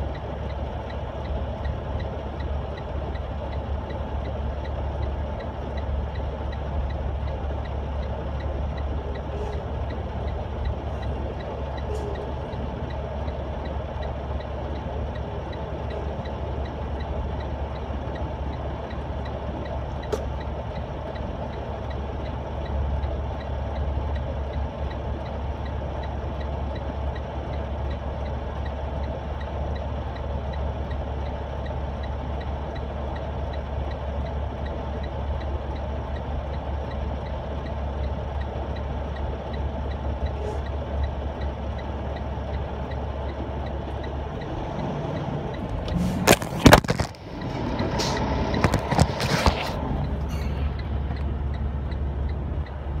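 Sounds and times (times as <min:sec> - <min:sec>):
faint regular ticking: 0:00.0 - 0:45.9, 0:50.0 - 0:53.0
vehicle idling: 0:00.0 - 0:53.0.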